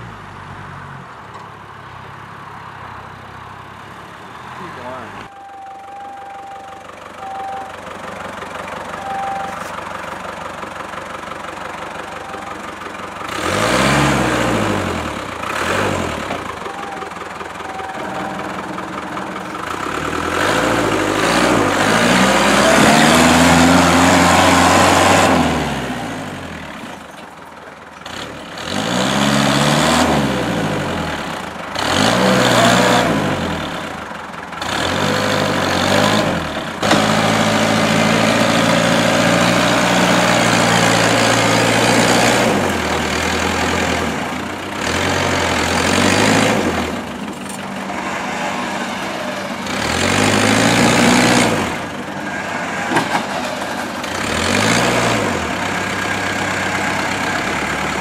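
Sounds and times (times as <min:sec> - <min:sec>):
off-road vehicle engine revving: 0:10.5 - 0:27.1, 0:28.0 - 0:58.0.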